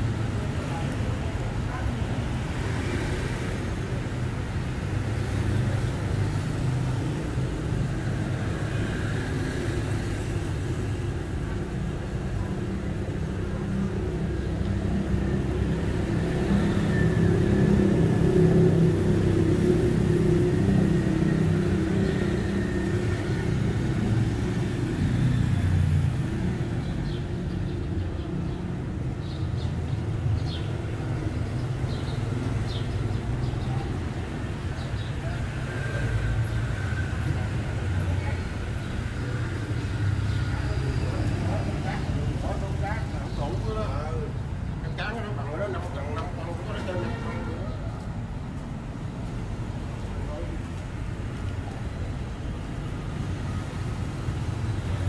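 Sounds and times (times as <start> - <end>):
traffic engine rumble: 0.0 - 55.0.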